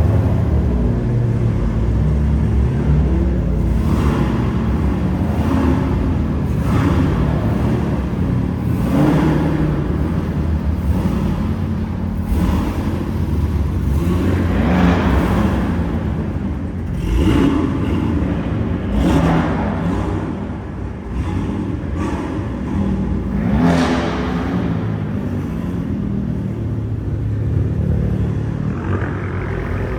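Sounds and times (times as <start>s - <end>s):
car engine rumbling: 0.0s - 29.9s.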